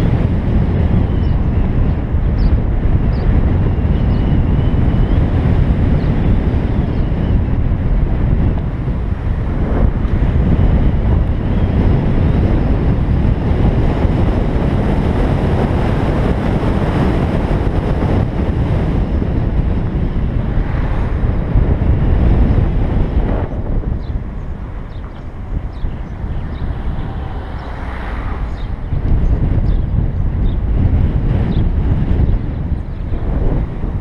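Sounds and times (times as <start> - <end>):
road and tyre rumble: 0.0 - 34.0
wind buffeting microphone: 0.0 - 34.0.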